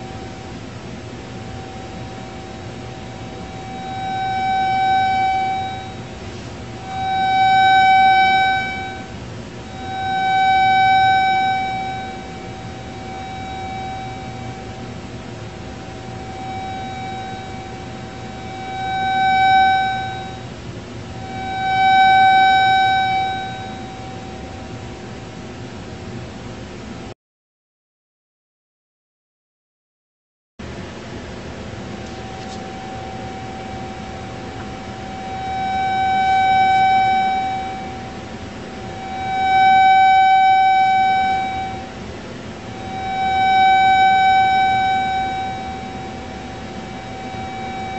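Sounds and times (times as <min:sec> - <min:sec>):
buzzy tone from loudspeaker: 0:00.0 - 0:00.4, 0:01.4 - 0:20.5, 0:21.1 - 0:24.8, 0:32.0 - 0:42.0, 0:42.6 - 0:47.9.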